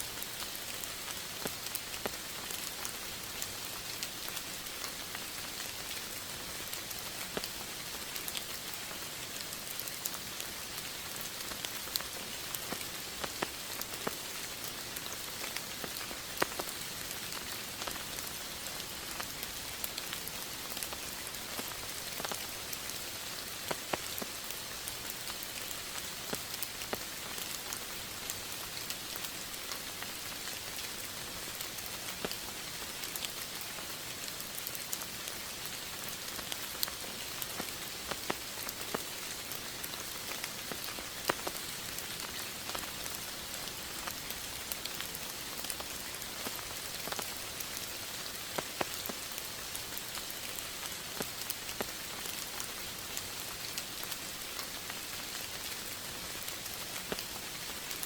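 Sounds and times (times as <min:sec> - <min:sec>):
raindrops ticking on surface: 0:00.0 - 0:58.0
steady rain hiss: 0:00.0 - 0:58.0.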